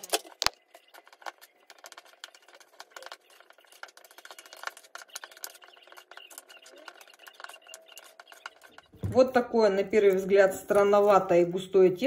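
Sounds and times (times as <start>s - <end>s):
spoon stirring batter in metal bowl: 0.0s - 11.4s.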